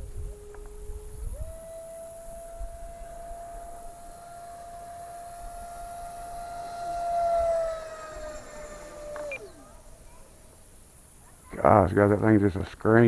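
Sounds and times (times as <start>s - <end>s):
model jet ducted fan whine: 0.0s - 13.0s.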